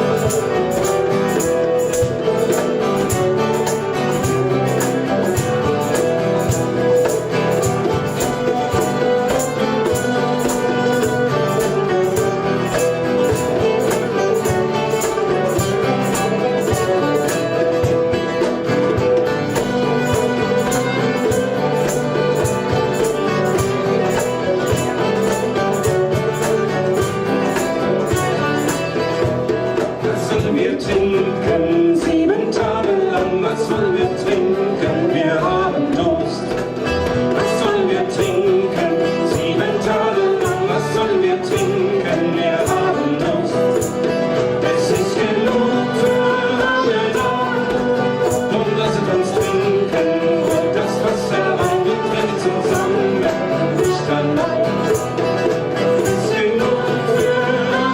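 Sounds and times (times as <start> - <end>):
folk song on instruments: 0.0 - 57.9
person singing: 0.0 - 57.9.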